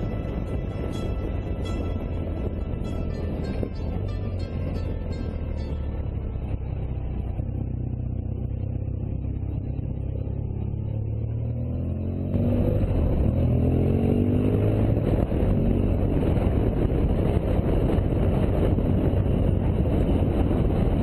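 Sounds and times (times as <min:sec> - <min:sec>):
motorcycle engine accelerating: 0:00.0 - 0:21.0
wind rush on microphone: 0:00.0 - 0:21.0.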